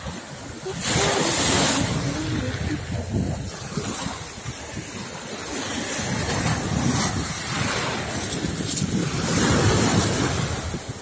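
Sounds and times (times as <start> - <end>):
sea surf breaking on shore: 0.0 - 11.0
wind buffeting microphone: 0.0 - 11.0.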